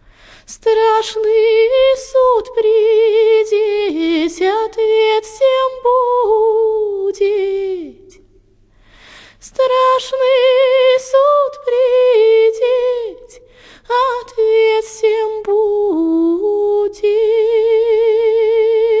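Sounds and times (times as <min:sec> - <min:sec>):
woman singing folk song: 0:00.5 - 0:08.2, 0:09.4 - 0:19.0.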